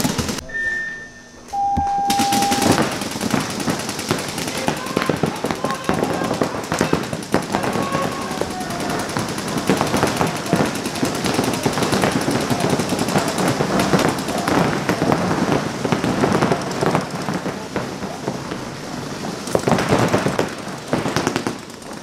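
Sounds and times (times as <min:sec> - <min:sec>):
paintball markers firing rapidly: 0:00.0 - 0:00.4, 0:02.1 - 0:17.4, 0:19.4 - 0:22.0.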